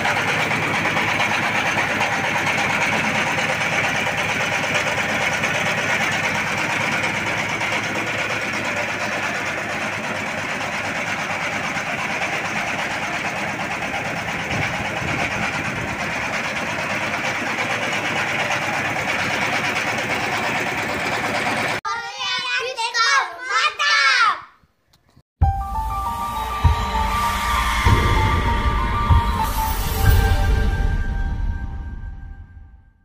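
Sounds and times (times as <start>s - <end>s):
diesel engine running: 0.0s - 21.8s, 25.4s - 32.7s.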